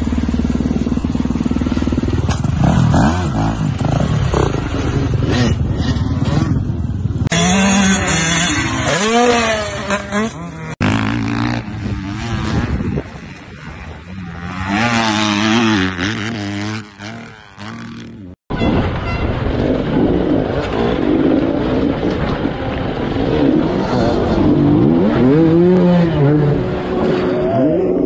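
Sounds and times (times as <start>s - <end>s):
dirt bike engine running hard: 0.0s - 18.3s, 19.3s - 28.0s
dirt bike engine revving: 0.0s - 18.4s, 20.2s - 28.0s.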